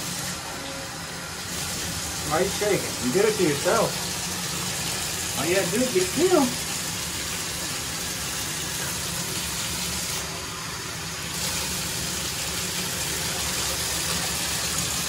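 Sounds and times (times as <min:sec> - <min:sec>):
tap water running into bathtub: 0:00.0 - 0:15.0.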